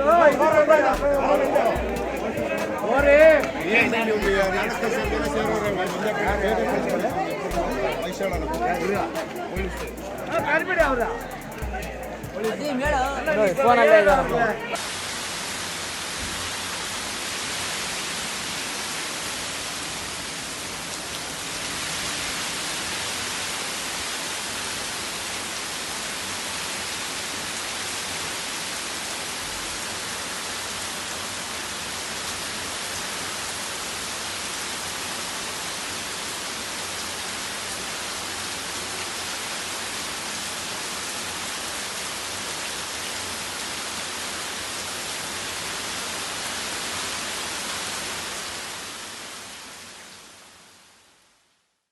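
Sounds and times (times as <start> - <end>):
heavy rain pouring: 0.0 - 50.8.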